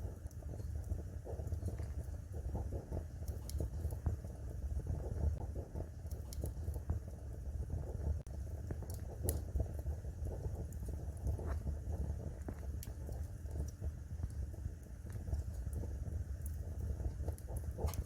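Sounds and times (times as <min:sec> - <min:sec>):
fire flames rumbling: 0:00.0 - 0:18.0
wood fire crackling and popping: 0:00.0 - 0:18.0.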